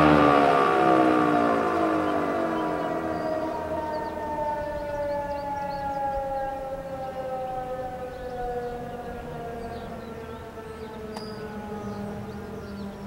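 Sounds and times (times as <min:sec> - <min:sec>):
siren winding down: 0:00.0 - 0:13.0.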